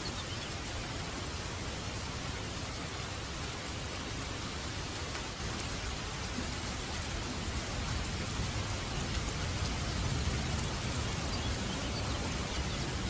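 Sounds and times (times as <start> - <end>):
steady rain patter: 0.0 - 13.0.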